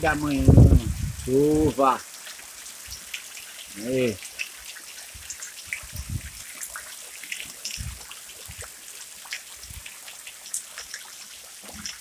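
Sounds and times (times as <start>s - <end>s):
drips and patters on roofs: 0.0s - 12.0s
rain hissing: 0.0s - 12.0s.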